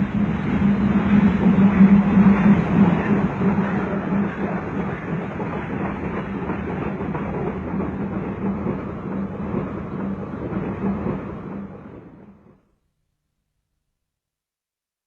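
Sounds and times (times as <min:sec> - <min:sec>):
steam train rumbling on rails: 0:00.0 - 0:12.7.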